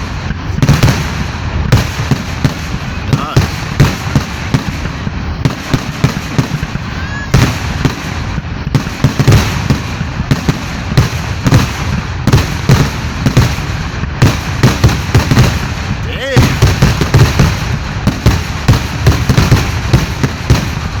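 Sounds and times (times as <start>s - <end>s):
fireworks banging: 0.0s - 21.0s
fireworks crackling: 0.0s - 21.0s.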